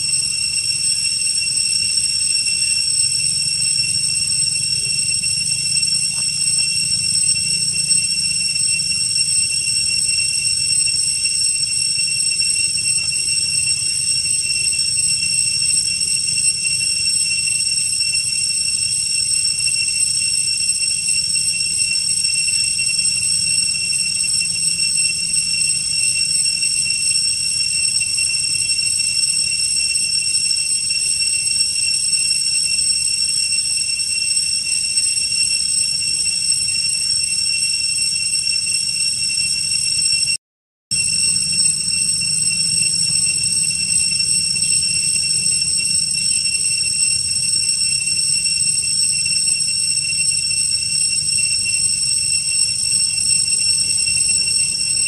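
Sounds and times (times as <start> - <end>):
cicada chorus drone: 0.0 - 40.3, 40.9 - 55.0.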